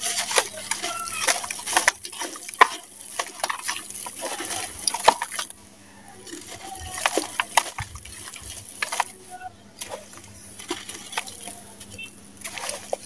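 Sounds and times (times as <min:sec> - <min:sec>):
cement lump crumbling: 0:00.0 - 0:05.6, 0:06.2 - 0:13.0
grit falling into water: 0:00.0 - 0:05.6, 0:06.2 - 0:09.2, 0:09.8 - 0:13.0.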